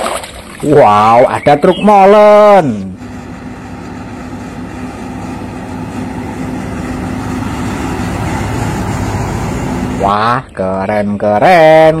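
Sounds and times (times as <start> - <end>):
truck engine droning: 0.6 - 12.0.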